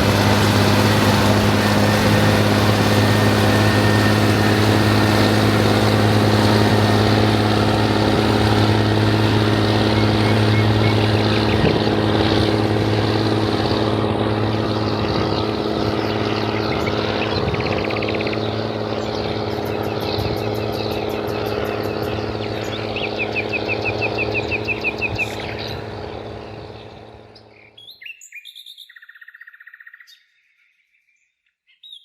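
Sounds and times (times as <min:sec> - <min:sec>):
tractor diesel engine running: 0:00.0 - 0:27.7.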